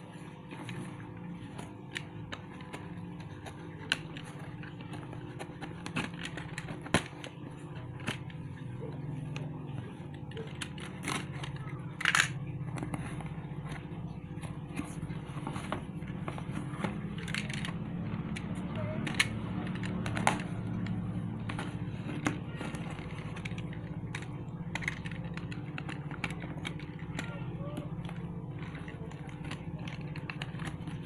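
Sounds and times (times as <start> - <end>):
steady low hum: 0.0 - 31.0
crackling tape: 0.2 - 31.0.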